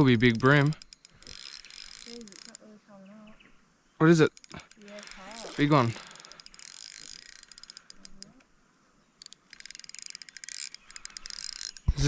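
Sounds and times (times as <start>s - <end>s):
fishing reel ratchet clicking: 0.0s - 2.6s, 4.3s - 8.5s, 9.2s - 12.0s.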